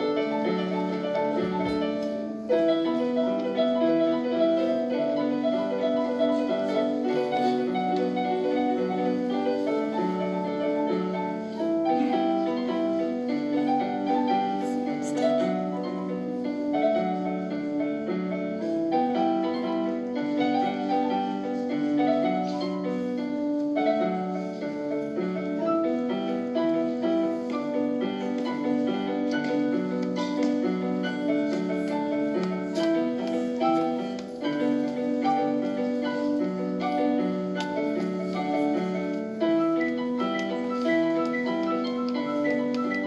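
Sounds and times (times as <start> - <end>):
digital piano playing: 0.0 - 43.0.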